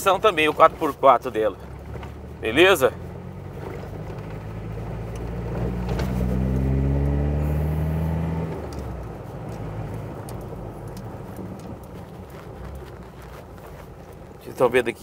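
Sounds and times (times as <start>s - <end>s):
diesel pickup engine: 0.0s - 15.0s.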